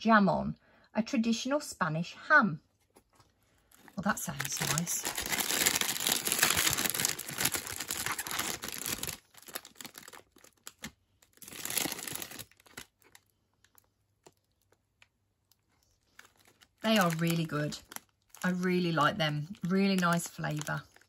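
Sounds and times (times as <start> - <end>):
crisp packet crinkling and tearing: 3.6 - 21.0.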